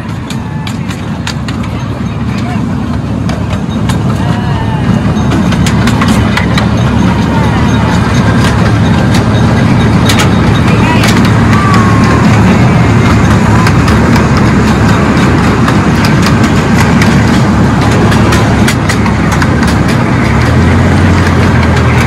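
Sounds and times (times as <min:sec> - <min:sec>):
miniature train rumbling: 0:00.0 - 0:22.0
wheels clicking and rattling on track: 0:00.0 - 0:22.0.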